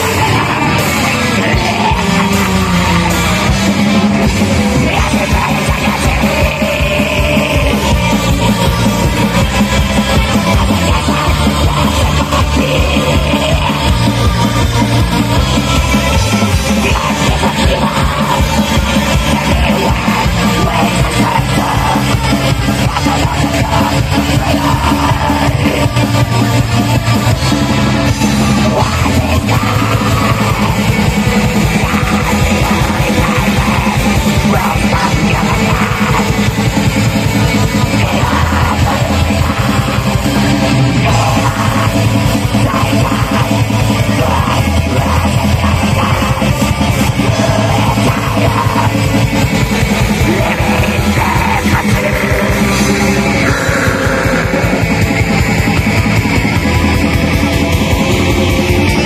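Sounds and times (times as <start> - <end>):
distorted guitars: 0.0 - 59.0
drums: 0.0 - 59.0
shouted vocals: 0.0 - 59.0.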